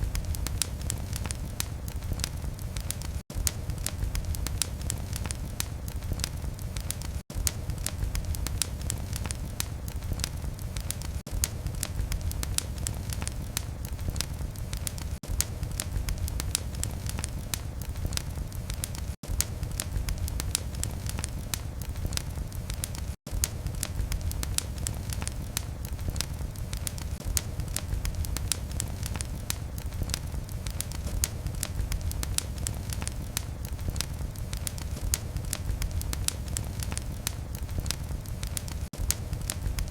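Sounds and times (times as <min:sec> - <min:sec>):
fire crackles and pops: 0:00.0 - 0:39.9
low rumble of flame: 0:00.0 - 0:39.9.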